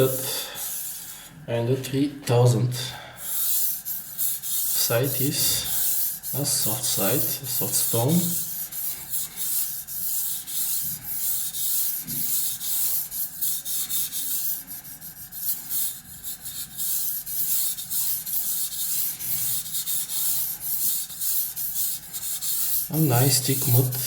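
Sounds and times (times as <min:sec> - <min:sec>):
knife rubbing on whetstone: 0:03.2 - 0:24.0.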